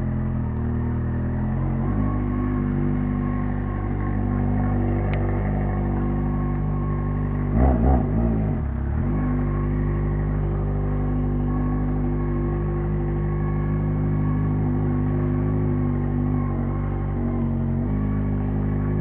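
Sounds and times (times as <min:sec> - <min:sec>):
motorcycle engine running loud: 0:00.0 - 0:19.0.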